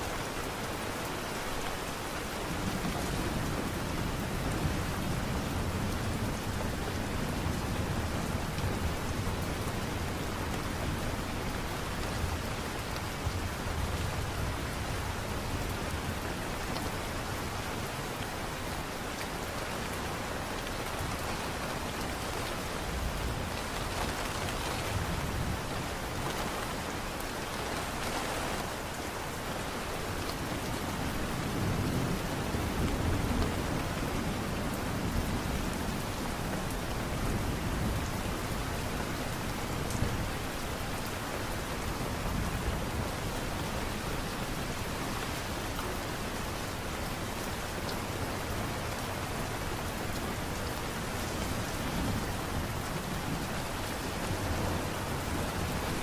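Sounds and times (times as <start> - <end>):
light rain hiss: 0.0 - 56.0.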